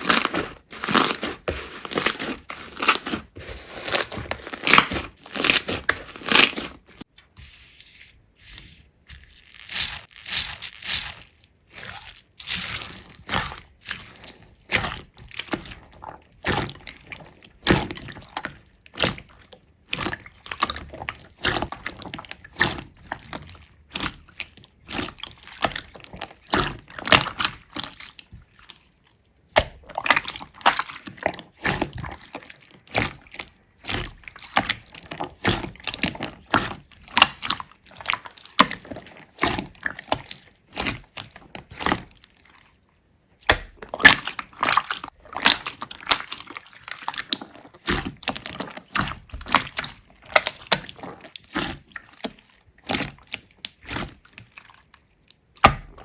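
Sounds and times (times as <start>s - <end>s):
slime squelching by hand: 0.0s - 7.1s, 8.9s - 56.0s.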